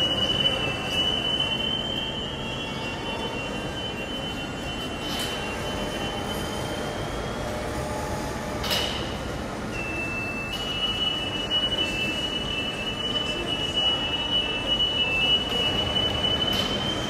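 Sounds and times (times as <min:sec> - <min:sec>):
mechanical noise with high whine: 0:00.0 - 0:17.0.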